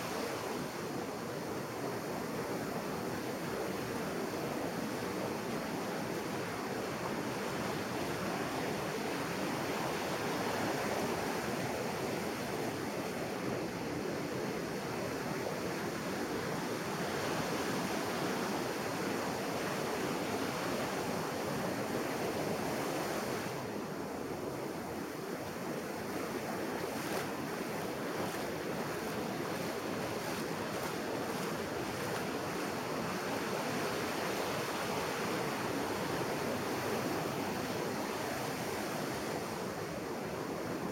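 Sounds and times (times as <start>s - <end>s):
ocean waves on a beach: 0.0s - 40.9s.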